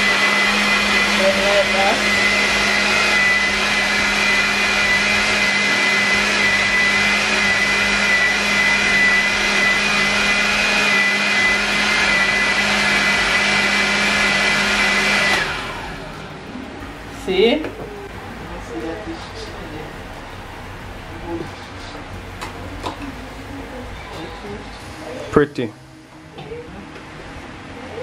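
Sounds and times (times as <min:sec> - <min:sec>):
kitchen blender running: 0:00.0 - 0:25.4.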